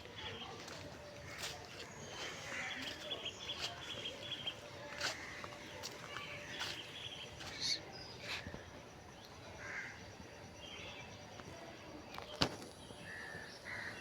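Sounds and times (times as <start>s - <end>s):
birds calling: 0.0s - 11.2s, 12.1s - 14.0s
faint outdoor background: 0.0s - 14.0s.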